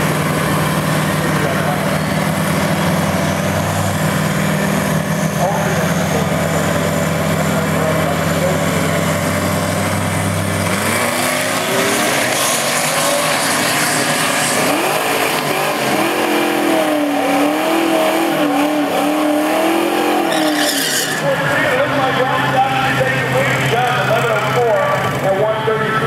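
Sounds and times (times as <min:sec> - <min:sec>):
car engine wavering in pitch: 0:00.0 - 0:25.3
engines idling: 0:00.0 - 0:26.0
truck engine revving with shifts: 0:00.0 - 0:26.0.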